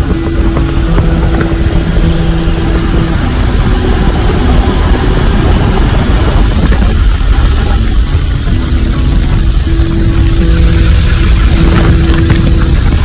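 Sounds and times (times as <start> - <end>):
biplane engine and propeller: 0.0 - 13.0
wind rush over microphone: 0.0 - 13.0.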